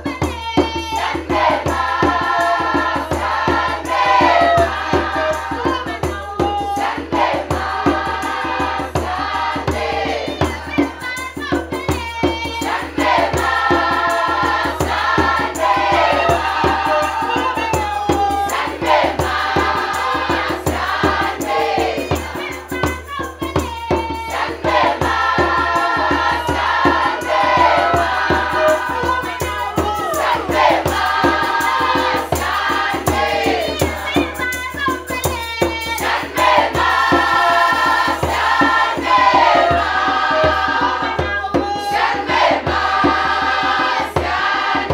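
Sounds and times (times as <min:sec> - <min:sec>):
fast percussion beat: 0:00.0 - 0:44.9
mixed choir singing in harmony: 0:00.2 - 0:22.9, 0:23.9 - 0:34.4, 0:35.6 - 0:44.9.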